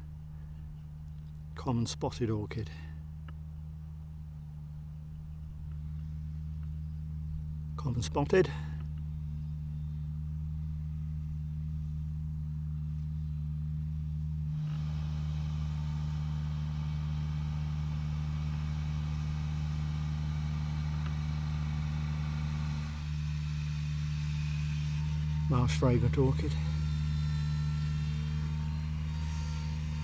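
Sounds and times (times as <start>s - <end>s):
vehicle hum: 0.0s - 30.0s.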